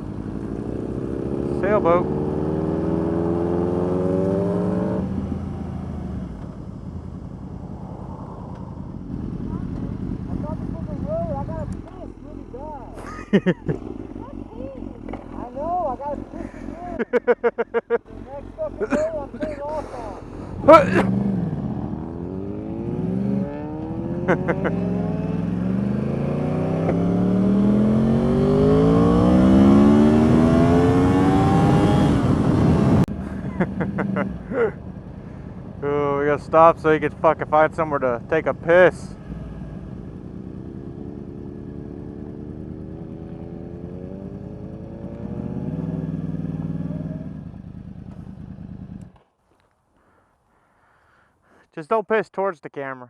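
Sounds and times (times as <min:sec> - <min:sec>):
motorcycle engine revving: 0:00.0 - 0:50.2.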